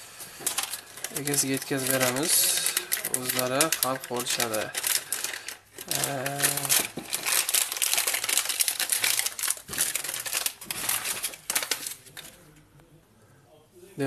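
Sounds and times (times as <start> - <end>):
plastic bag crinkling: 0.3 - 12.5.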